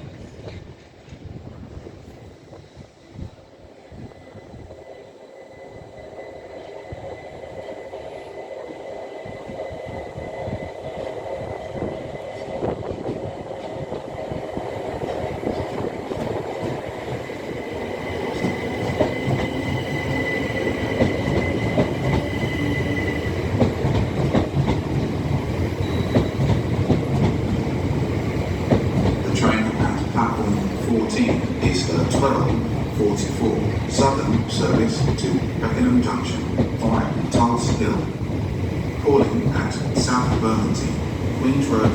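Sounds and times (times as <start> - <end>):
electric train approaching: 0.0 - 41.9.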